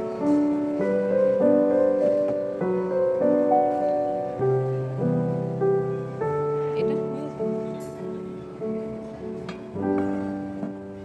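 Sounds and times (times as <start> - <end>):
gentle piano tune: 0.0 - 11.0.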